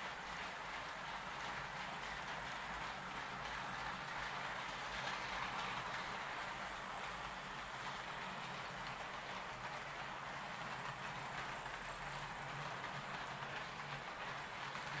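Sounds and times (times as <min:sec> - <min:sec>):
metal wheels rolling on rail: 0:00.1 - 0:15.0.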